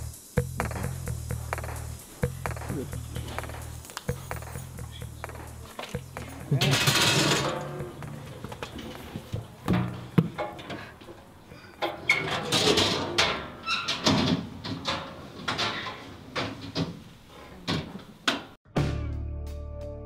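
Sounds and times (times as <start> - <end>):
knocks and clunks: 0.4 - 17.0.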